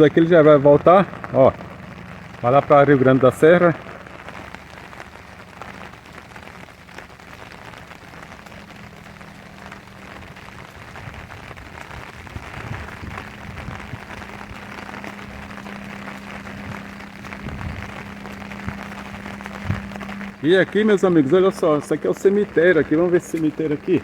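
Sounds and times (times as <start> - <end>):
low hum: 0.0 - 24.0
rain falling: 0.0 - 24.0.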